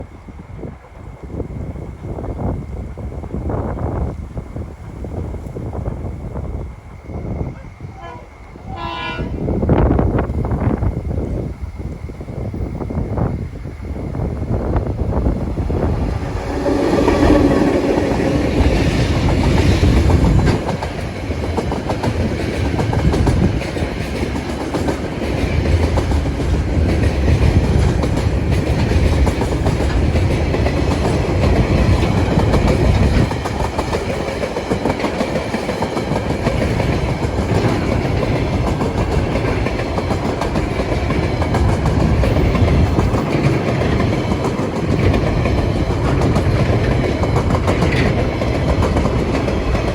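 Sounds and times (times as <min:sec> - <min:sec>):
locomotive engine hum: 0:00.0 - 0:49.9
train wheels clickety-clack: 0:09.0 - 0:49.9.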